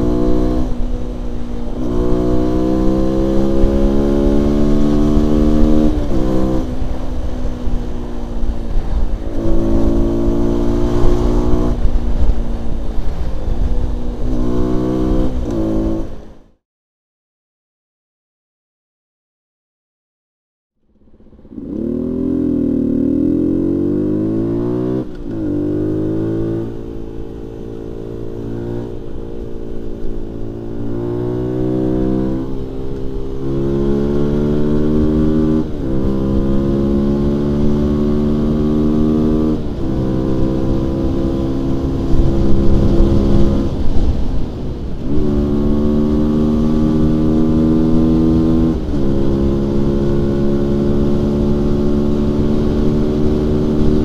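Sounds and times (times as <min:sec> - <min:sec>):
motorcycle engine revving and accelerating: 0:00.0 - 0:16.6, 0:20.9 - 0:54.0.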